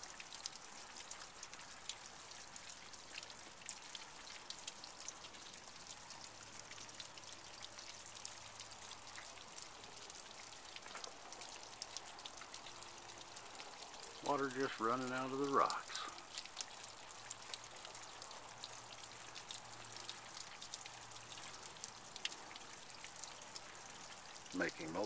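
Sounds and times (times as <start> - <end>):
water dripping and trickling: 0.0 - 25.0.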